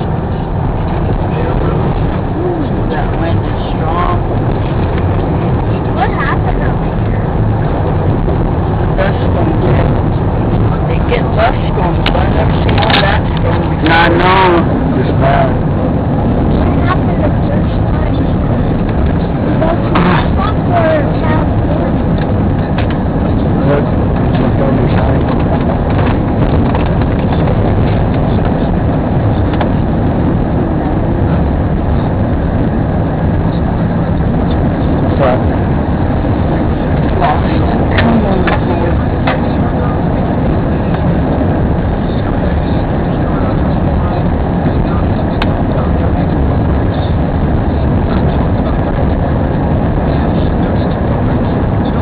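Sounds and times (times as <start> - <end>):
car interior driving rumble: 0.0 - 52.0.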